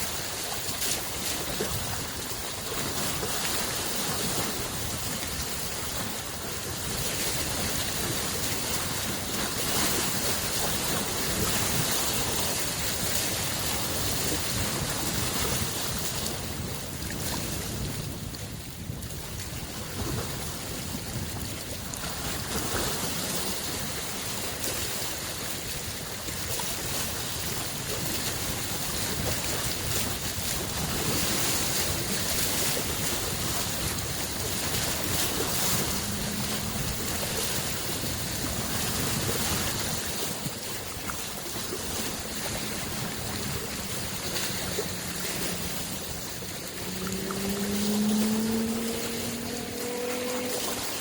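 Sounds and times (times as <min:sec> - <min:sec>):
distant boat engine hum: 0:00.0 - 0:51.0
waves lapping on shore: 0:00.0 - 0:51.0.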